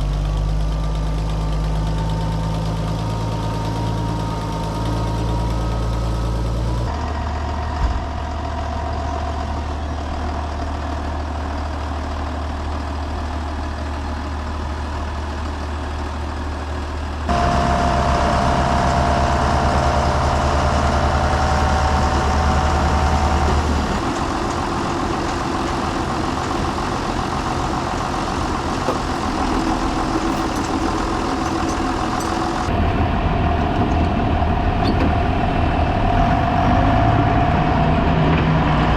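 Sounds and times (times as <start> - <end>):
heavy machinery engines running: 0.0 - 38.9.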